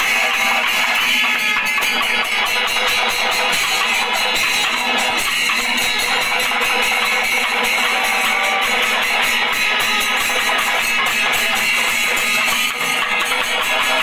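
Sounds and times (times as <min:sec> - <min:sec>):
temple drums and cymbals: 0:00.0 - 0:14.0.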